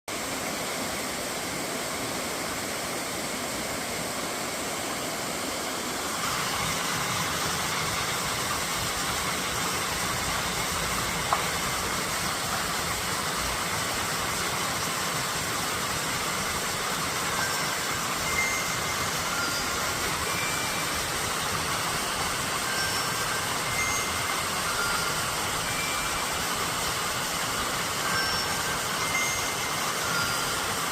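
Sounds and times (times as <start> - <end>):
stream rushing water: 0.1 - 30.9.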